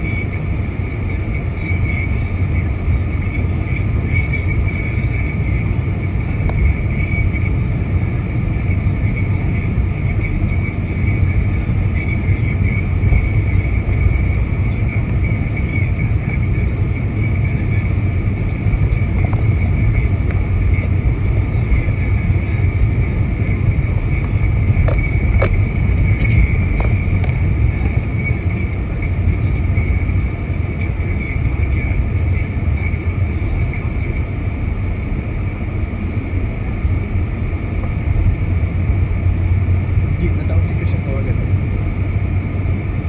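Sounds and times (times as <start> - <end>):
faint high whine: 0.0 - 43.0
low vehicle rumble: 0.0 - 43.0.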